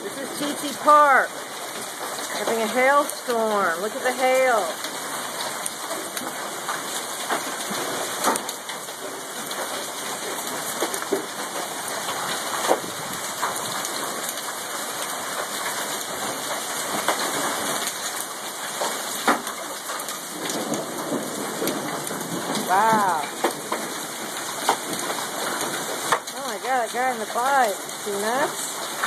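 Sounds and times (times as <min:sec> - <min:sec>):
hail and heavy rain hissing: 0:00.0 - 0:29.0
hailstones clicking on hard surfaces: 0:00.2 - 0:29.0.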